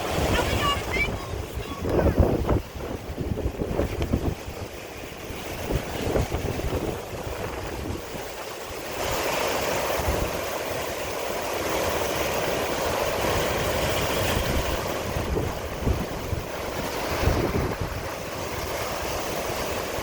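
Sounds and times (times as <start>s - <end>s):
storm wind gusting: 0.0s - 20.0s
wind buffeting microphone: 0.0s - 20.0s.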